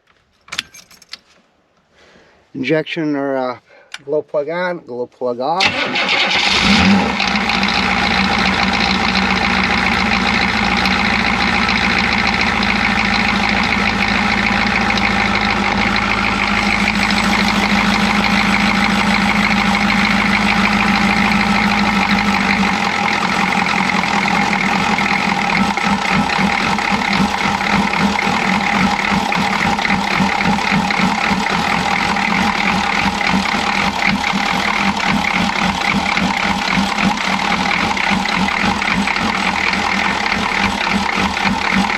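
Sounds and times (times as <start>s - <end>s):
diesel engine idling roughly: 5.6s - 41.9s.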